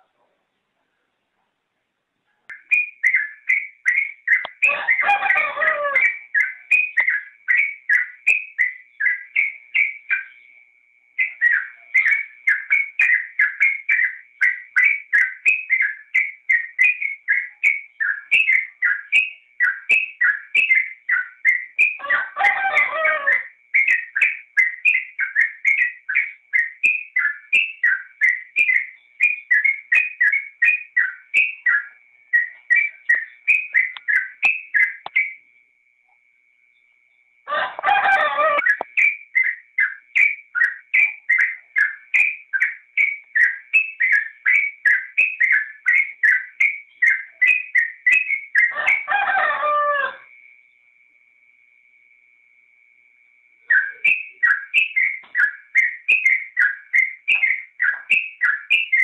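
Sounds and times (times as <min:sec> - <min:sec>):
lower fuller bird call: 0:02.3 - 0:35.6, 0:36.7 - 0:50.8, 0:53.6 - 0:59.0
bird singing bubbly whistled notes: 0:02.5 - 0:10.6, 0:11.2 - 0:22.1, 0:22.8 - 0:35.5, 0:38.5 - 0:49.1, 0:53.6 - 0:59.0.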